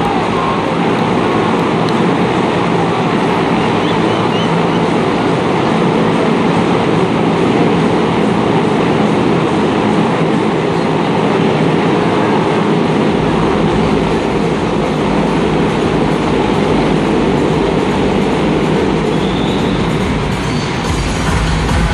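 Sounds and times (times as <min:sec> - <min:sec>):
deep rumble: 0:00.0 - 0:21.9
motorcycle engines droning: 0:00.0 - 0:21.9.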